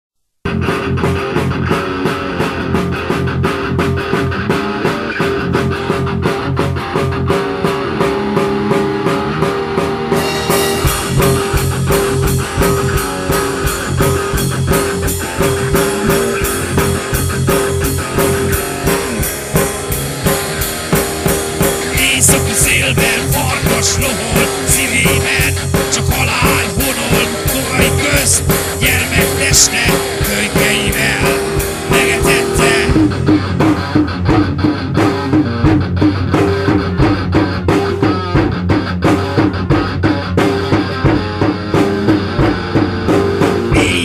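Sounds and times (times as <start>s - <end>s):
guitar: 0.4s - 44.0s
deep bass: 0.5s - 44.0s
fast drum beat: 0.5s - 44.0s.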